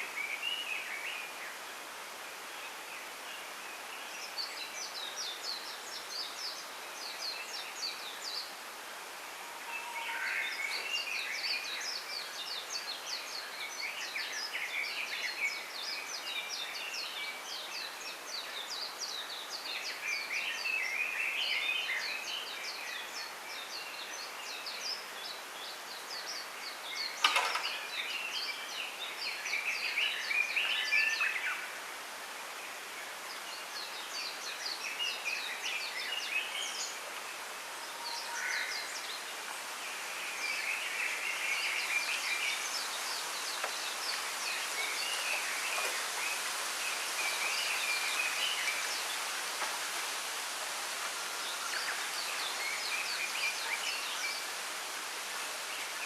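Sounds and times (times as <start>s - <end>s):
songbirds singing: 0.0s - 56.0s
steady hiss: 0.0s - 56.0s.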